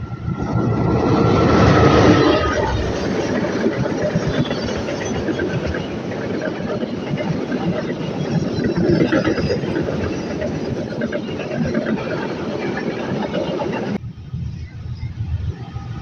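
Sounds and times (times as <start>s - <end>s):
train wheels clattering on rails: 0.8s - 14.0s.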